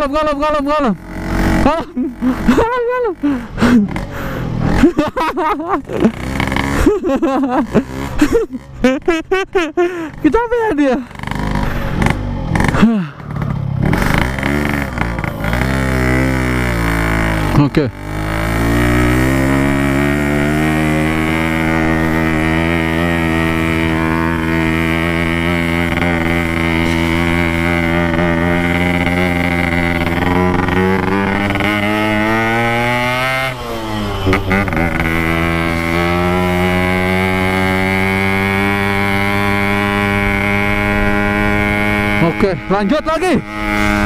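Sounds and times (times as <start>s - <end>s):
two-stroke motorcycle engine running: 0.0s - 44.0s.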